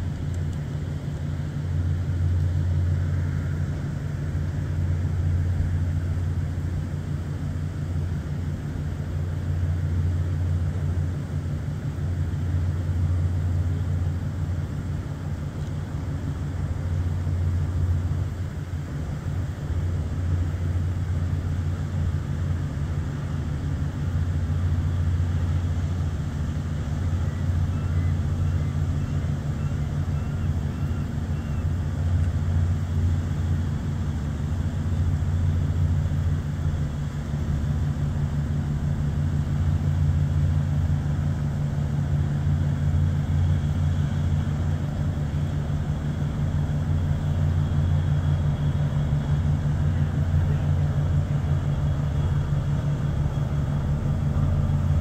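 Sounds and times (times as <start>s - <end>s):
boat engines droning: 0.0s - 55.0s.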